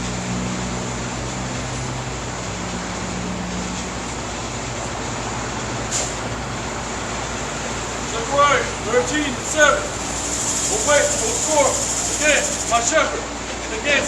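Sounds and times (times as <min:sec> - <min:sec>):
street traffic rush: 0:00.0 - 0:14.0
vehicle engine hum: 0:00.0 - 0:14.0.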